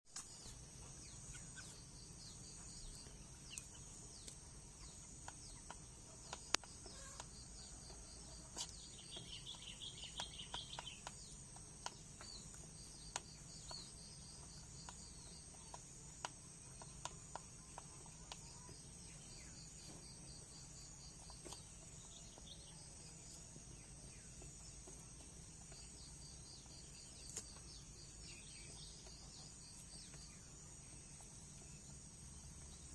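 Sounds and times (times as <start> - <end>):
crickets chirping: 0.1 - 32.9.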